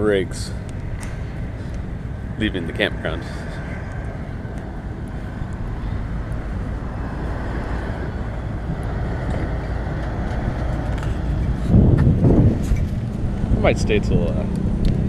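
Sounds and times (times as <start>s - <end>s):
trucks driving past: 0.0s - 15.0s.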